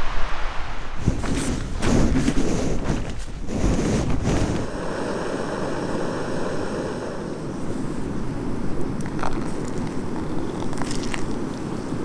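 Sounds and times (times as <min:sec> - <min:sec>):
strong wind gusting: 0:00.0 - 0:12.0.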